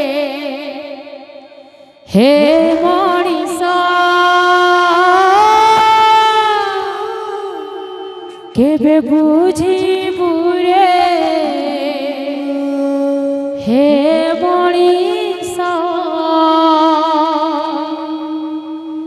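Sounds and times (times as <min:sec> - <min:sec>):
woman singing devotional song: 0:00.0 - 0:19.0.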